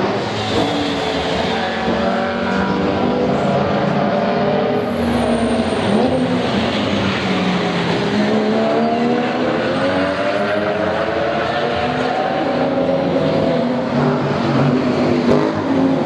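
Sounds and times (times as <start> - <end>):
racing car engines at high revs: 0.0 - 16.0.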